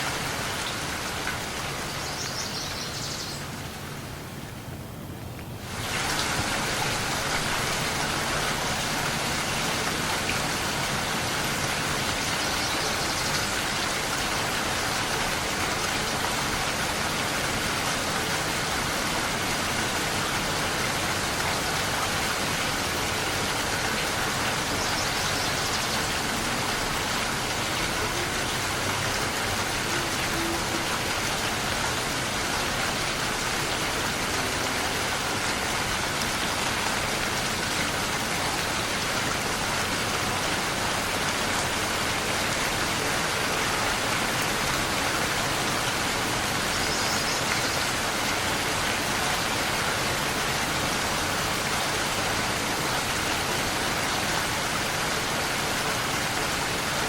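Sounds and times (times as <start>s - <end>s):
dense rain falling: 0.0s - 57.0s.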